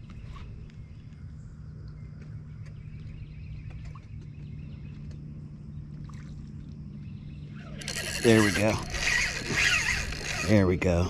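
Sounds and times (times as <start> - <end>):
birds chirping: 0.0 - 11.0
steady low hum: 0.0 - 11.0.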